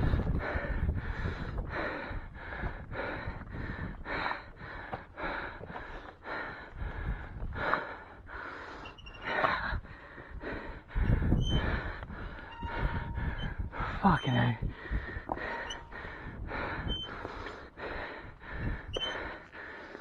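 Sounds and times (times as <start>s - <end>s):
heavy fast breathing: 0.0s - 20.0s.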